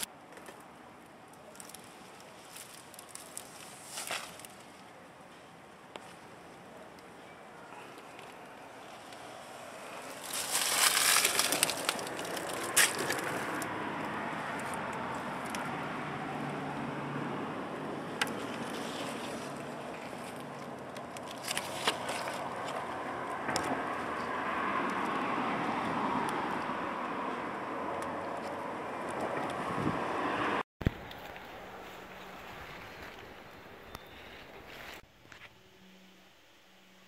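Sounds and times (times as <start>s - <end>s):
leaves rustling near microphone: 0.0s - 30.0s, 30.8s - 37.0s
outdoor background noise: 0.0s - 37.0s.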